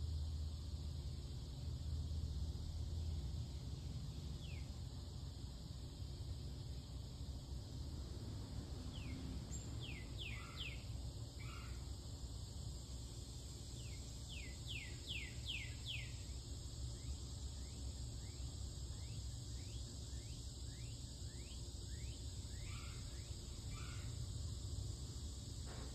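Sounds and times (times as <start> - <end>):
high insect hiss: 0.0 - 25.9.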